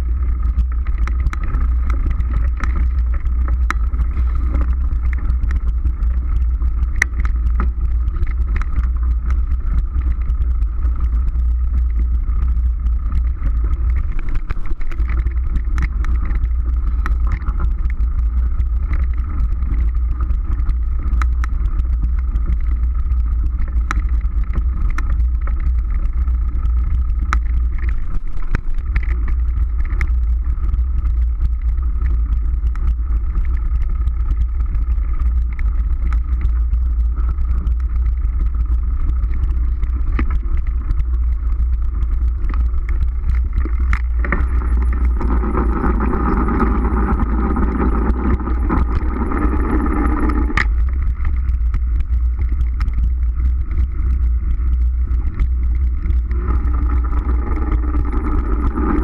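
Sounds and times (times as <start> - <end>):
bike tyres on dirt trail: 0.0 - 59.0
wind buffeting microphone: 0.0 - 59.0.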